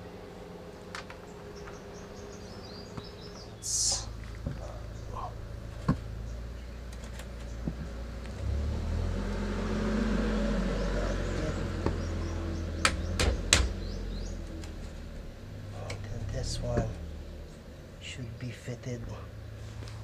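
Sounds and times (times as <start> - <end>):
low rumble: 0.0 - 6.9, 7.5 - 18.5
steady low hum: 0.0 - 20.0.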